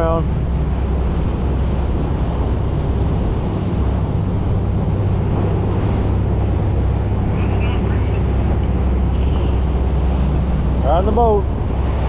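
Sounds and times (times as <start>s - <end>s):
motorboat engine droning: 0.0s - 12.0s
water rushing past hull: 0.0s - 12.0s
wind buffeting microphone: 0.0s - 12.0s.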